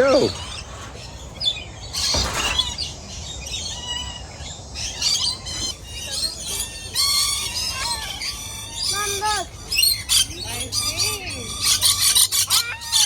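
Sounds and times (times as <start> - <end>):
small birds chirping and squawking: 0.0 - 13.0.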